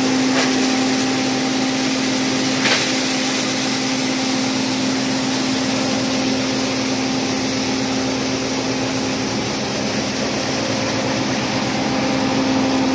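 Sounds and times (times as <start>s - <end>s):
grinding mill machine hum: 0.0s - 12.9s.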